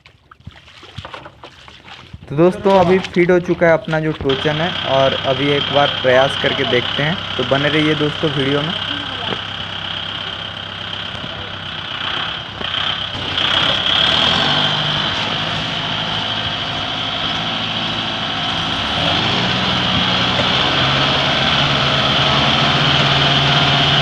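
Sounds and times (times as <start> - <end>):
tractor diesel engine under load: 2.1 - 24.0.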